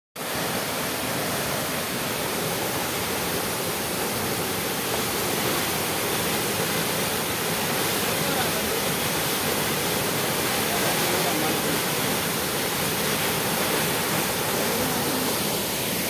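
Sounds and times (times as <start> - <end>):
waterfall rushing: 0.2 - 16.0.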